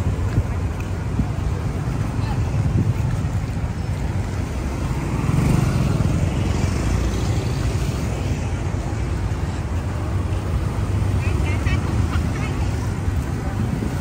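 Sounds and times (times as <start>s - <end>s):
traffic rumble of passing cars: 0.0s - 14.0s.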